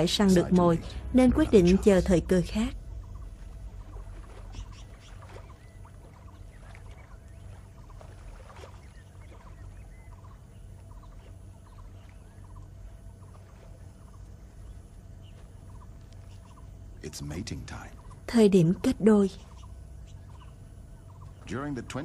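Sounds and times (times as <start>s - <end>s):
steady low hum: 0.0s - 22.0s
wildlife chirps and calls: 0.0s - 22.0s.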